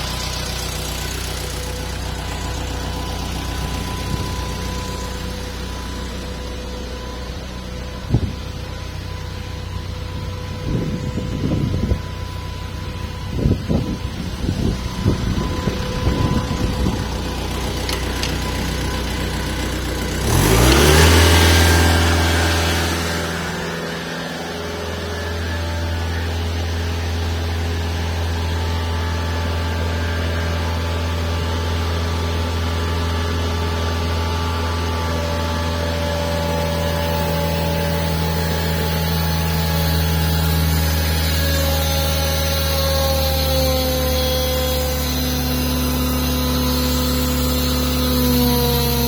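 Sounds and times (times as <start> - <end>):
engine running and revving: 0.0 - 49.0.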